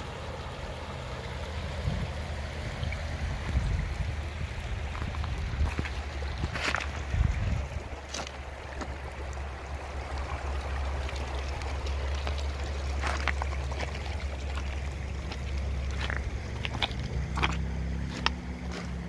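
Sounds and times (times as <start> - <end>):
water flowing over stones: 0.0 - 19.0.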